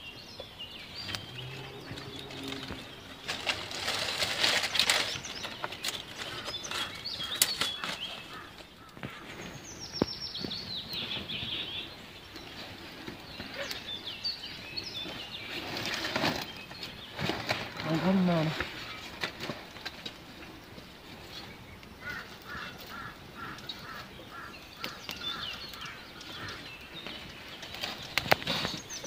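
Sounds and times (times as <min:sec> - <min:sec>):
bird chirps: 0:00.0 - 0:19.5, 0:21.3 - 0:29.0
bird singing: 0:00.0 - 0:29.0
dry leaves and twigs crackling: 0:00.0 - 0:29.0.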